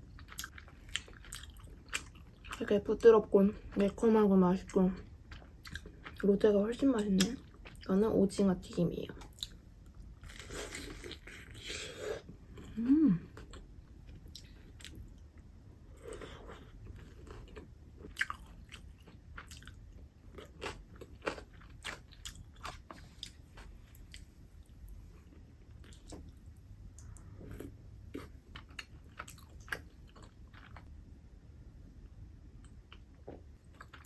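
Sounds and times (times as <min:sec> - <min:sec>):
chewing crispy fried food: 0:00.0 - 0:08.0, 0:09.1 - 0:30.9, 0:32.6 - 0:34.0.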